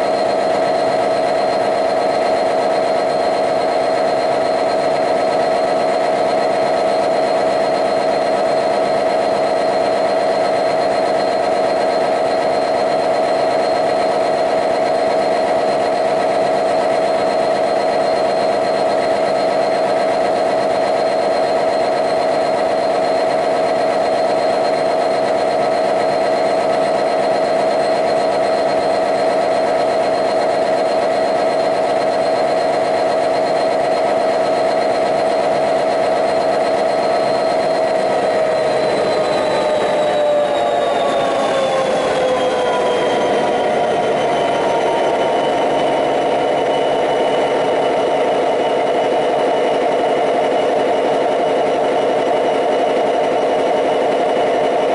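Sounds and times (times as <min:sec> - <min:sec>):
diesel engine idling drone: 0:00.0 - 0:53.2.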